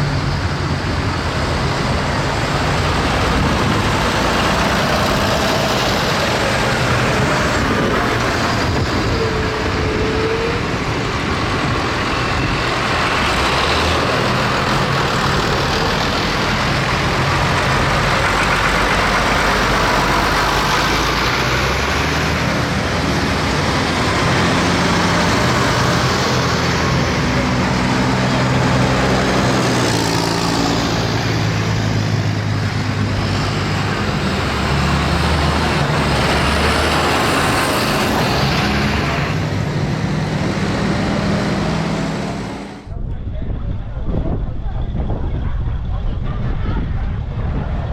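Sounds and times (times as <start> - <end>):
tractor engines running: 0.0 - 47.9.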